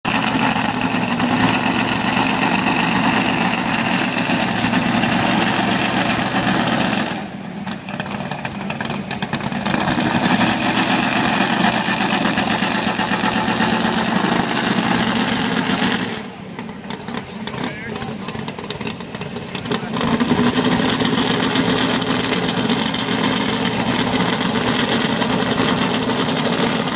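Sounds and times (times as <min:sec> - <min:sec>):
truck engine running: 0:00.0 - 0:26.9.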